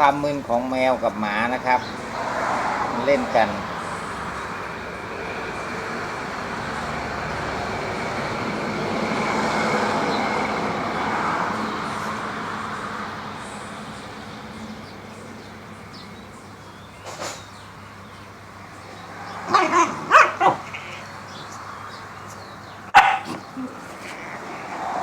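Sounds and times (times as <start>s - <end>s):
vehicle passing: 0.0s - 25.0s.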